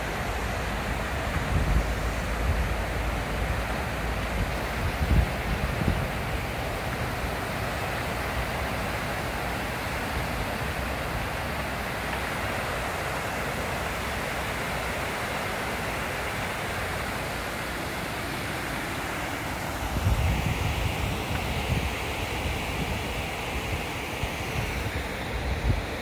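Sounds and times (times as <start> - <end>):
water rushing over weir: 0.0 - 26.0.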